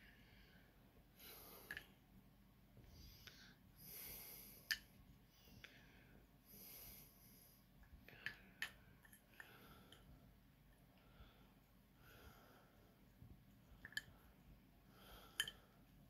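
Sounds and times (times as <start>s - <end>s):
soft breathing: 0.0s - 2.1s, 2.7s - 16.0s.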